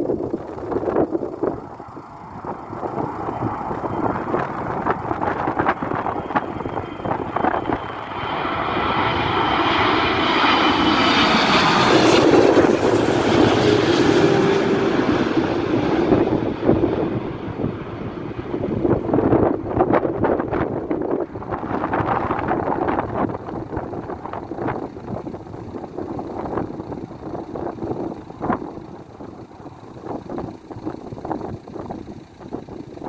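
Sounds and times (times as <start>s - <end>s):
jet airliner passing overhead: 0.0s - 32.6s
high fan whine: 0.0s - 33.0s.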